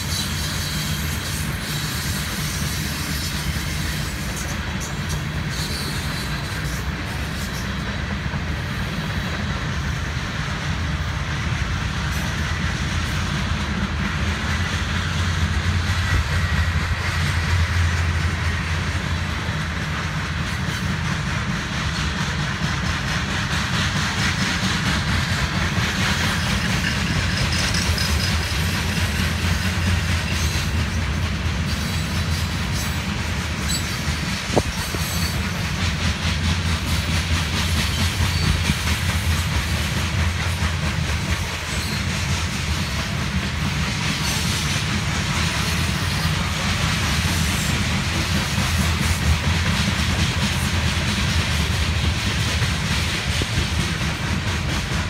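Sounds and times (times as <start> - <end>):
hiss: 0.0 - 55.0
train wheels rumbling on rails: 0.0 - 55.0.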